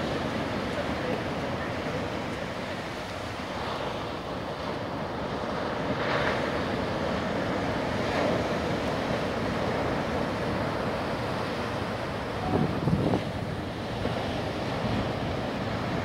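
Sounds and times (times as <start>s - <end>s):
waves breaking and washing: 0.0s - 16.0s.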